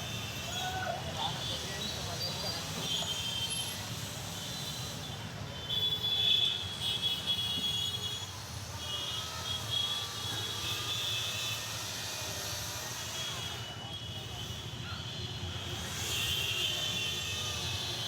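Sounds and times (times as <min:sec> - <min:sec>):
traffic engines rumbling: 0:00.0 - 0:18.0.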